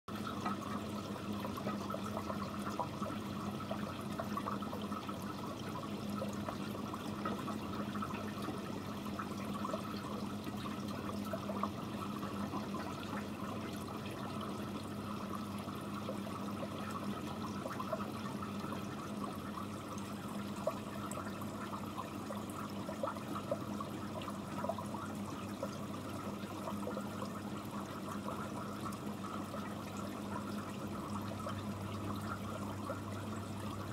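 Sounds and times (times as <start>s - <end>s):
aquarium filter bubbling: 0.1s - 33.9s.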